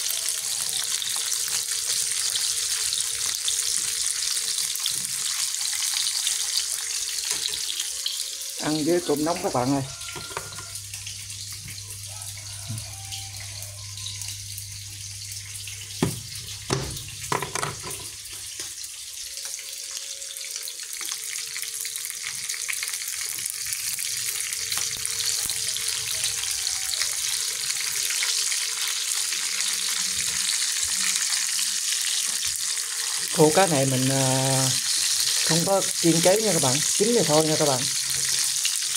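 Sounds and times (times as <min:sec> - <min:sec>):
fish sizzling in oil: 0:00.0 - 0:38.9.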